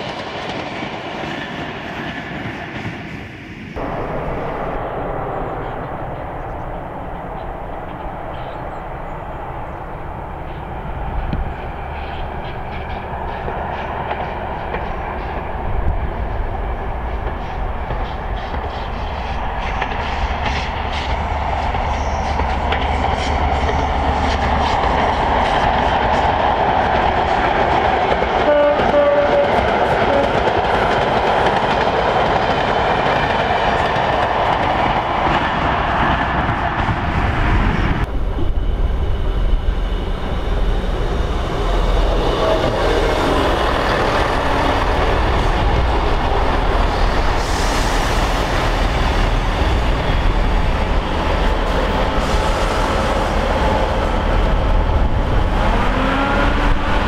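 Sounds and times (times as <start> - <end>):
diesel train passing: 0.0 - 57.0.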